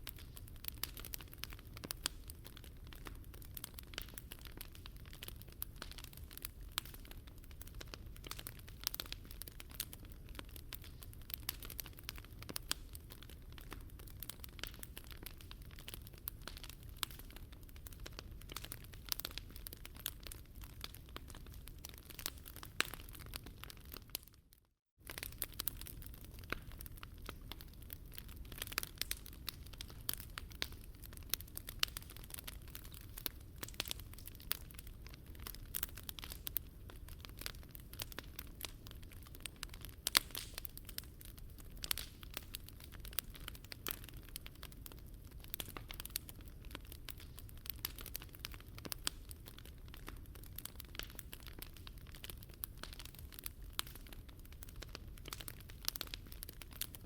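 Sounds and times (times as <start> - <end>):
low fire rumble: 0.0 - 24.2, 25.0 - 57.0
wood fire crackling and popping: 0.0 - 57.0.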